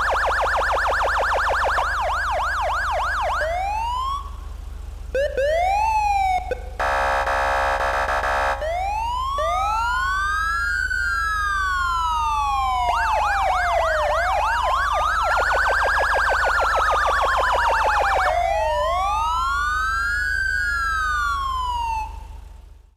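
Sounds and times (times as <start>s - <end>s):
electronic police siren: 0.0s - 4.5s, 5.1s - 22.5s.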